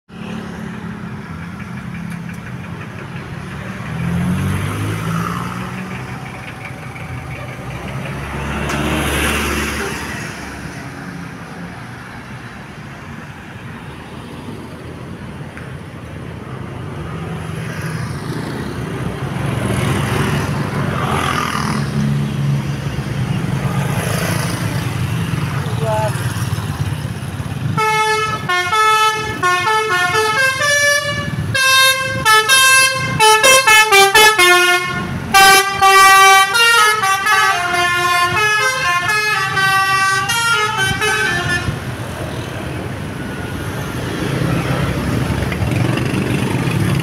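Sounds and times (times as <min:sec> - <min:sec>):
vehicle engines running: 0:00.1 - 0:47.0
vehicles passing by: 0:00.1 - 0:47.0.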